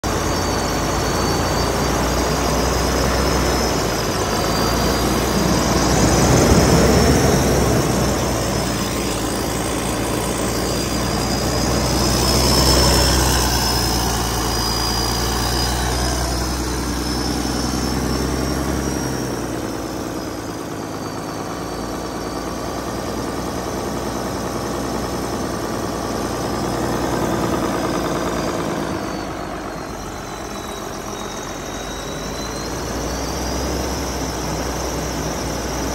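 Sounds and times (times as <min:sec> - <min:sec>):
diesel engine revving: 0:00.0 - 0:35.9
thin high whine: 0:00.0 - 0:35.9.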